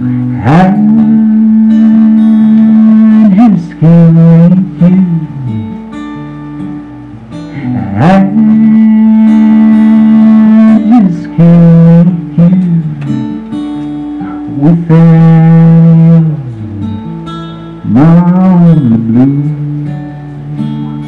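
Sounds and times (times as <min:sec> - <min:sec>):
guitar with bending notes: 0:00.0 - 0:21.0.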